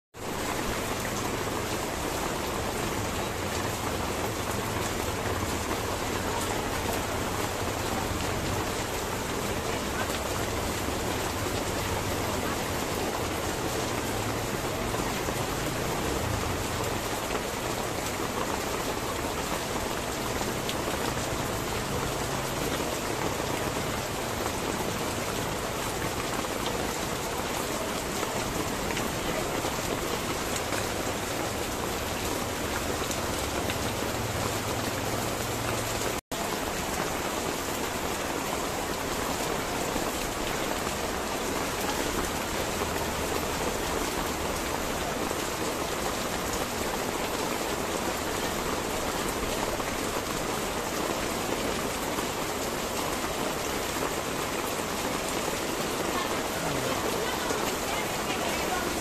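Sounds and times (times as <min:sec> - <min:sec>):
rain pattering on tarpaulin: 0:00.2 - 0:59.0
rain splashing into puddles: 0:00.2 - 0:59.0.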